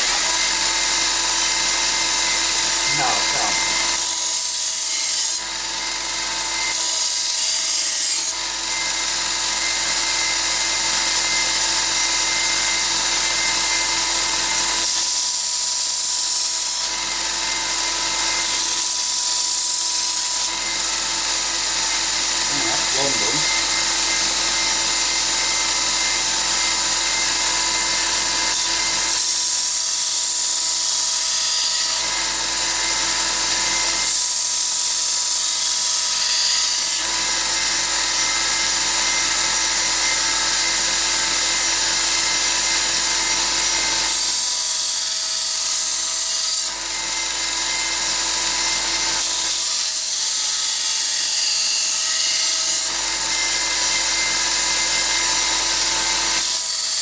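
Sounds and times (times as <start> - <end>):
electric knife sharpener grinding: 0.0 - 57.0.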